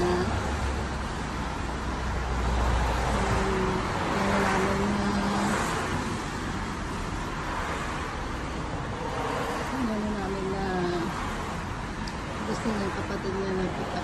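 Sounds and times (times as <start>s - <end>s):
passing car tyre noise: 0.0s - 13.1s.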